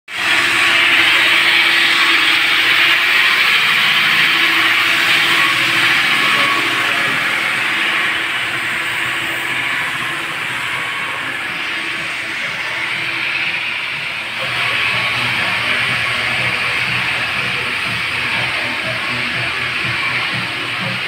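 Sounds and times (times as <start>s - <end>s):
stone-cutting machinery rushing: 0.1s - 21.0s.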